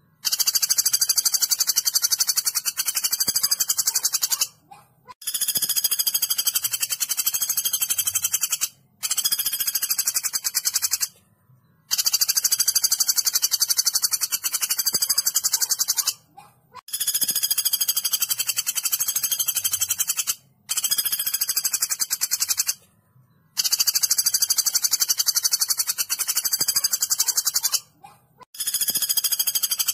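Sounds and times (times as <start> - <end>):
woodpecker rattling trill: 0.2 - 11.2, 11.9 - 22.8, 23.5 - 29.9.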